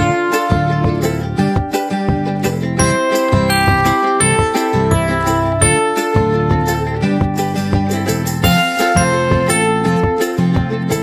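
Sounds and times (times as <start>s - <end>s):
plucked guitar music with beat: 0.0s - 11.0s.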